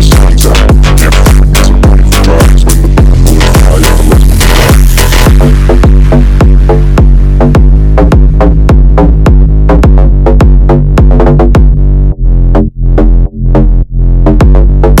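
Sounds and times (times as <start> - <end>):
electronic music with heavy bass: 0.0 - 15.0.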